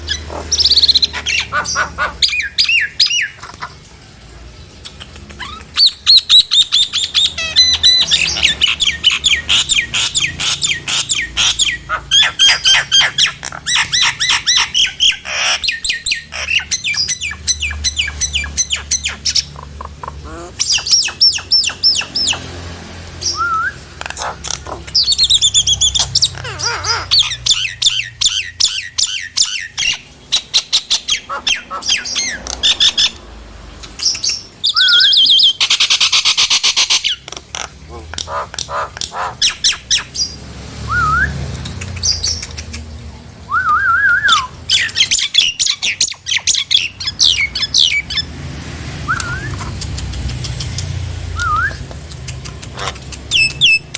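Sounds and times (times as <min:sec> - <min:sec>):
myna bird calling: 0:00.0 - 0:03.9, 0:04.8 - 0:22.6, 0:23.2 - 0:33.2, 0:34.0 - 0:42.8, 0:49.1 - 0:53.9.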